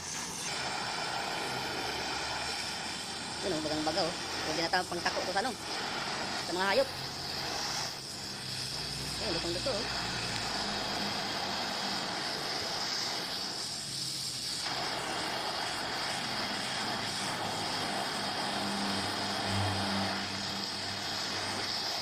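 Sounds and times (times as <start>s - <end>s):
welding torch flame hissing: 0.0s - 22.0s.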